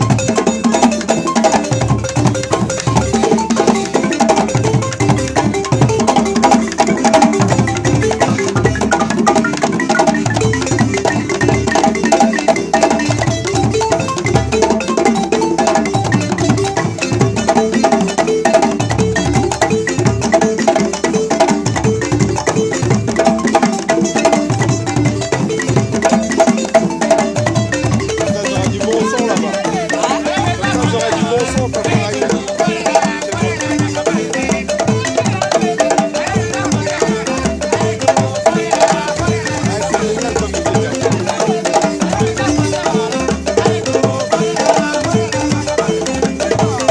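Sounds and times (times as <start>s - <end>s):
wooden xylophone fast runs: 0.0s - 46.9s.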